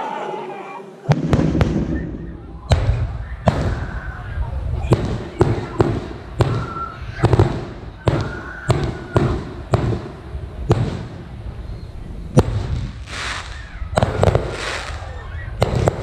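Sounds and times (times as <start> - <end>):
firework shells booming: 1.1 - 11.4, 12.3 - 16.0.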